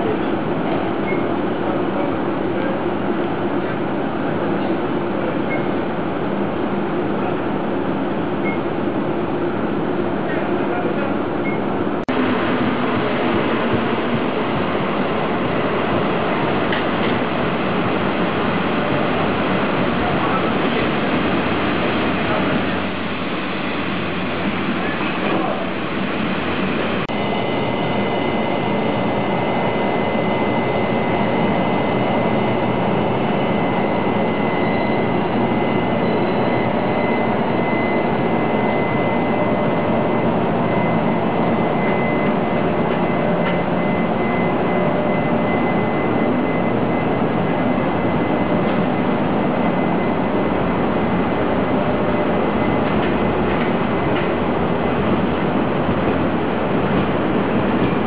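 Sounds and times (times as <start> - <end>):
train hum and rumble: 0.0 - 58.0.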